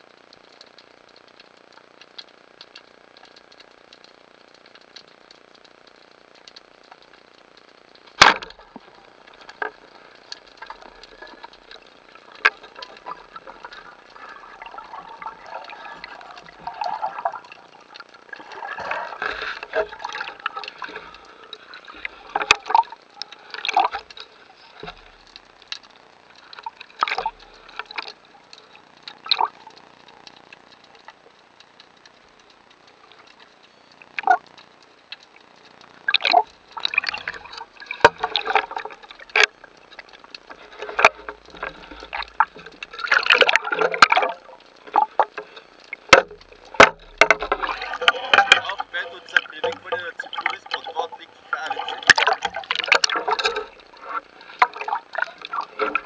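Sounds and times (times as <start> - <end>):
water bubbling and gurgling: 0.0 - 56.0
sharp clicks: 0.2 - 56.0.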